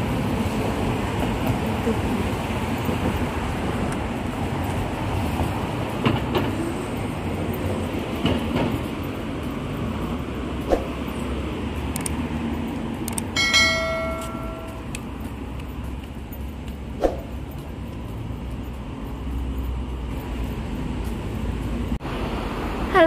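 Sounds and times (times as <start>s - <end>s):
passing road traffic: 0.0s - 23.0s.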